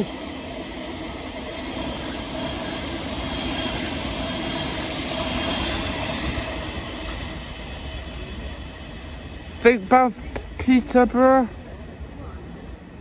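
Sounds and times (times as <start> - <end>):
train passing with rumble: 0.0 - 13.0.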